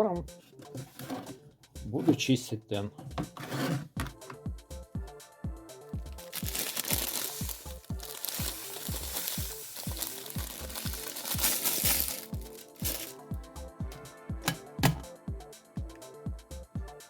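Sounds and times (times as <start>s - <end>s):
background music with kick drum: 0.0s - 17.0s.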